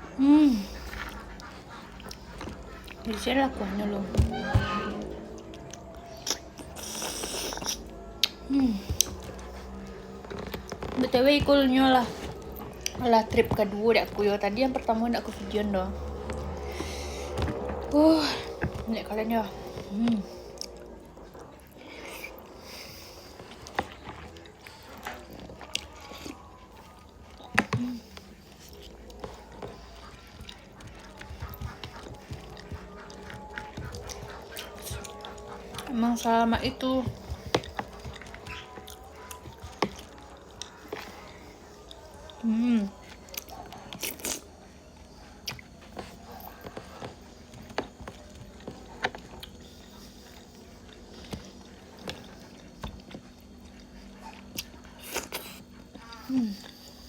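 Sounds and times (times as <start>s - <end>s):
chewing and wet mouth sounds: 0.0s - 57.0s.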